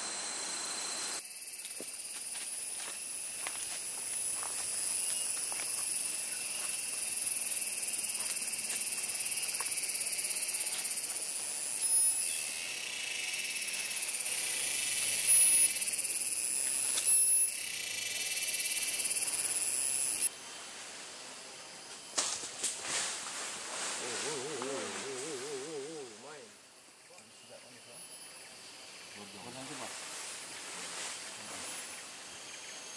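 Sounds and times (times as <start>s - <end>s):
insect chorus shrilling: 0.0s - 20.7s, 22.1s - 32.9s
loud high insect notes: 0.0s - 32.9s.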